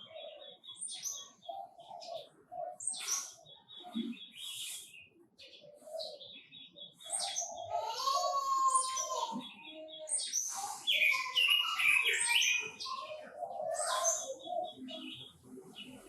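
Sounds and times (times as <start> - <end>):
songbirds singing and chirping: 0.0 - 16.0.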